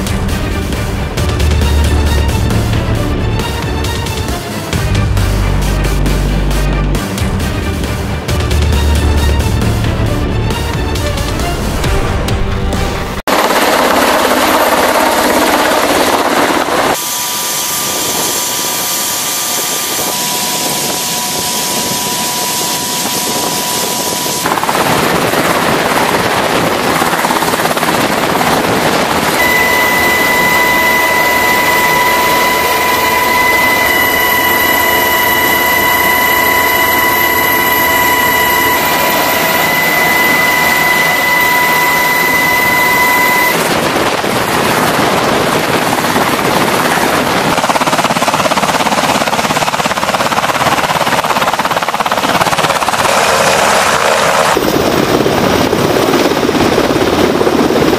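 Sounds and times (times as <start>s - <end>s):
high engine whine: 0.0s - 24.8s, 27.2s - 47.8s, 52.6s - 57.9s
helicopter rotor and turbine noise: 0.0s - 57.9s.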